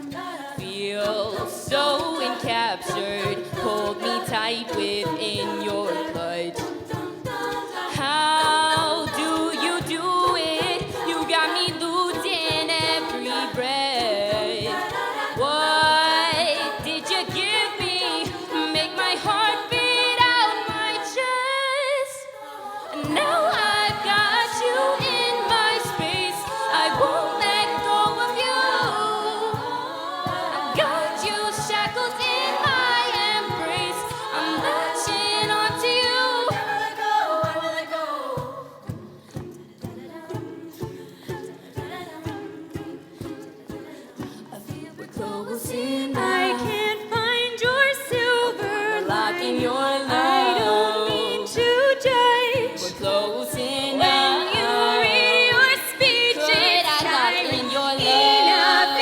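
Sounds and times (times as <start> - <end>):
vocal percussion beat: 0.0 - 59.0
women singing in close harmony: 0.0 - 59.0.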